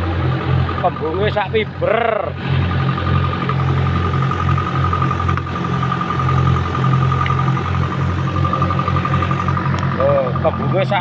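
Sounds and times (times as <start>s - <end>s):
boat engine chugging: 0.0s - 11.0s
steady high whine: 0.0s - 11.0s.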